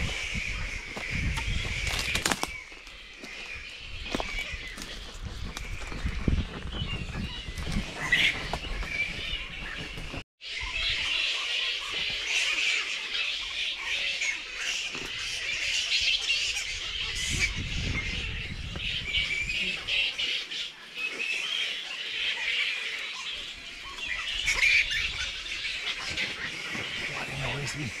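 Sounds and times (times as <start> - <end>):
flying foxes chattering: 0.0 - 28.0.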